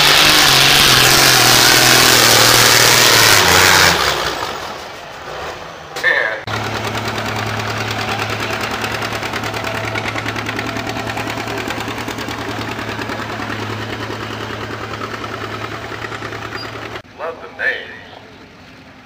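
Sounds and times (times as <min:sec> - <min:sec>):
tractor diesel engine running hard: 0:00.0 - 0:19.0.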